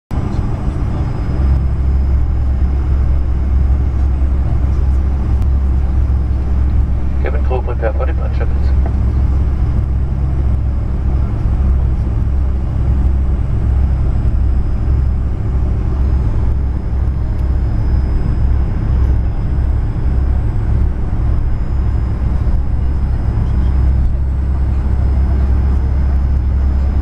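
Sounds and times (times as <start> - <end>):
jet engines rumbling from cabin: 0.1 - 27.0.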